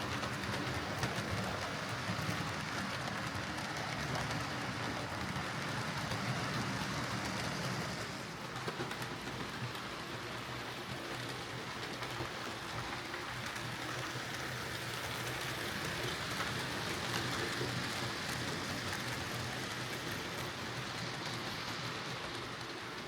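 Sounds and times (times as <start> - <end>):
wheels rattling on rail: 0.0 - 23.0.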